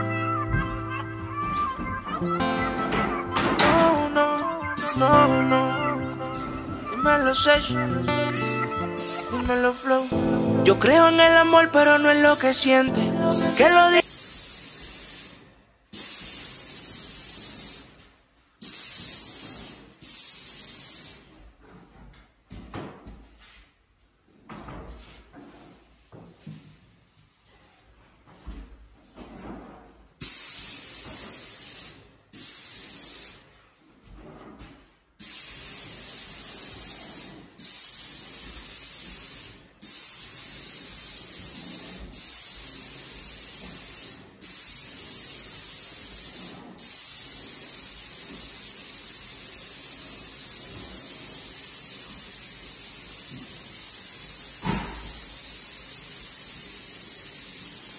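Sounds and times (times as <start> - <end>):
paint sprayer hissing: 0.0 - 21.4, 30.2 - 33.5, 35.2 - 57.9.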